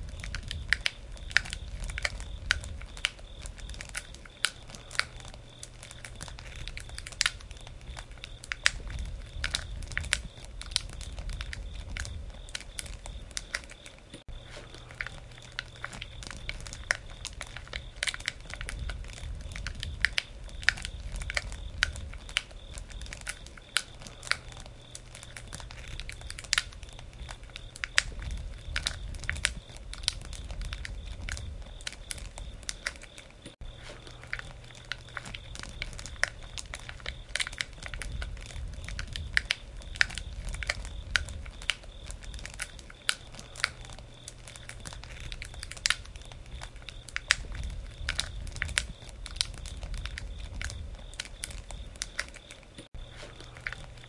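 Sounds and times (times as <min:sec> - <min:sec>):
campfire crackling and popping: 0:00.0 - 0:54.0
low rumble of flames: 0:00.0 - 0:54.0.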